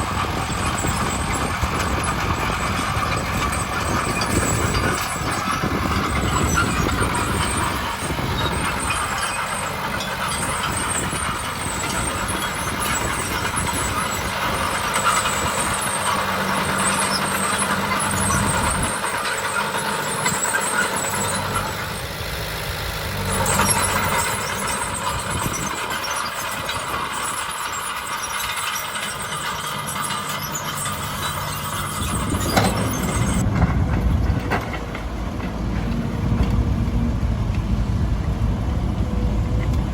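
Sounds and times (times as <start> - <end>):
diesel construction machinery: 0.0 - 39.9.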